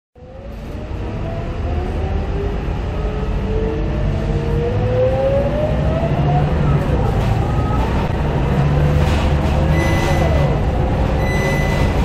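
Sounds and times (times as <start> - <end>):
bus engine drone: 0.2 - 12.0.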